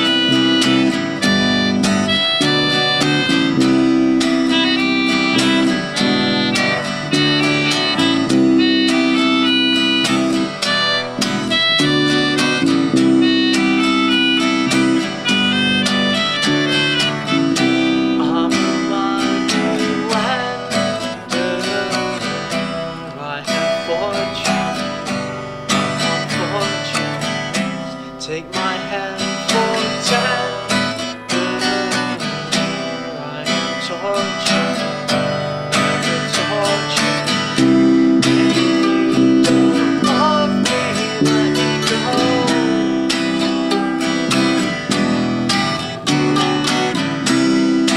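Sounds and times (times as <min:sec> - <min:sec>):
bass: 0:00.0 - 0:28.4, 0:34.6 - 0:47.9
picked mandolin: 0:00.0 - 0:47.9
strummed acoustic guitar: 0:00.0 - 0:47.9.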